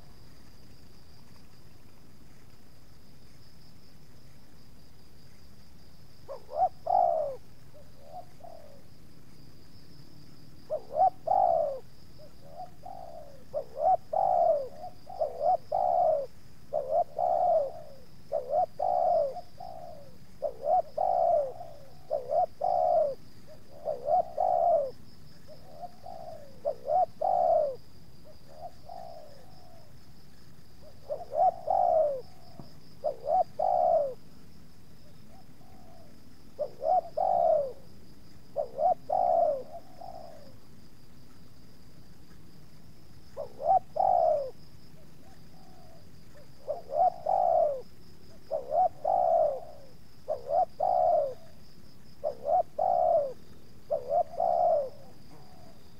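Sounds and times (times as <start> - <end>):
faint high insect drone: 0.0 - 55.9
doves cooing: 6.2 - 9.3, 10.3 - 42.2, 43.0 - 55.9.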